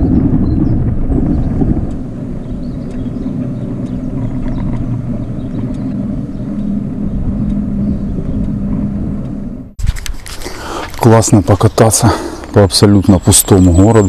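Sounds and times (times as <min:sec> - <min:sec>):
low even hum: 0:00.0 - 0:12.6
wind and road noise: 0:00.0 - 0:14.0.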